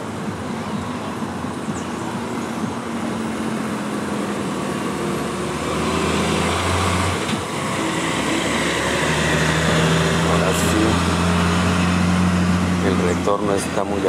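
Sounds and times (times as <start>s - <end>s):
traffic noise: 0.0s - 14.0s
vehicle engine running: 0.0s - 14.0s.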